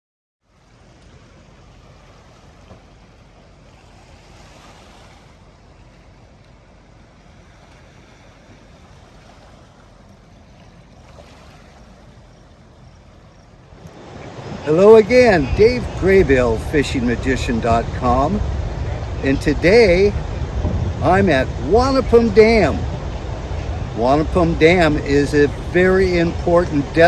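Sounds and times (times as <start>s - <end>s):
rushing water: 0.4s - 27.0s
wind: 0.4s - 27.0s.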